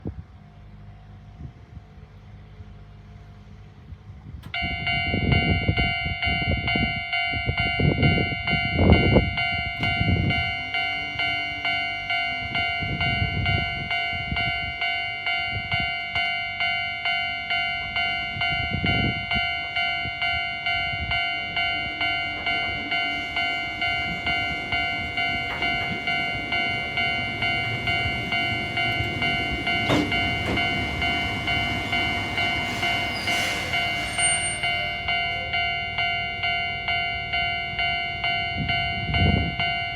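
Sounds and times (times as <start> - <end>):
level crossing bell ringing: 4.6 - 39.9.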